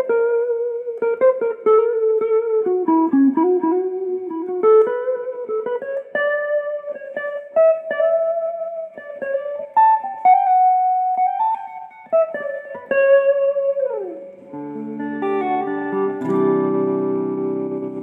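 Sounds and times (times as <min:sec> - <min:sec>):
electric guitar melody: 0:00.0 - 0:18.0
guitar chords ringing: 0:00.0 - 0:18.0.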